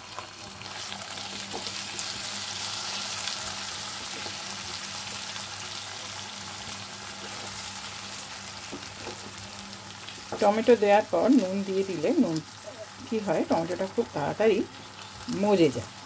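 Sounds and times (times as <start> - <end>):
paste sizzling in a frying pan: 0.0 - 16.0.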